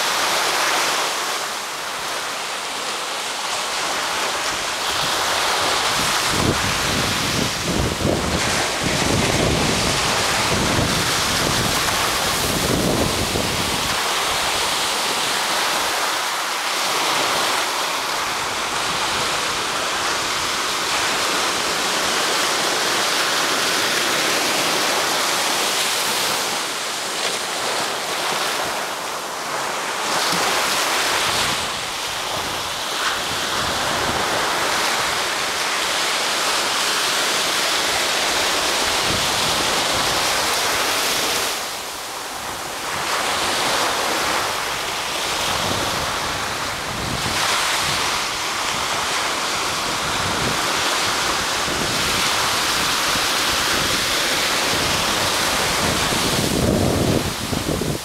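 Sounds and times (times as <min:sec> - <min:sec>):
waves washing over sandy beach: 0:00.0 - 0:58.0.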